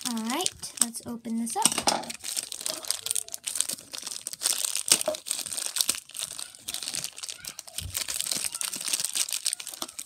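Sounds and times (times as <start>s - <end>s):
plastic packet crinkling and tearing: 0.0s - 10.0s.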